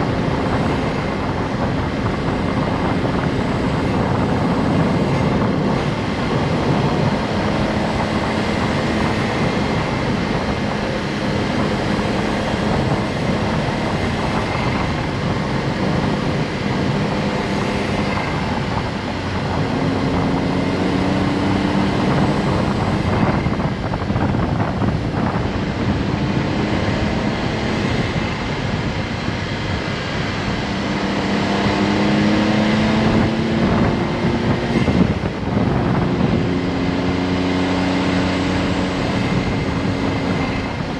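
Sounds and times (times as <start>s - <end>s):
car engine running: 0.0s - 40.9s
road and wind noise: 0.0s - 40.9s.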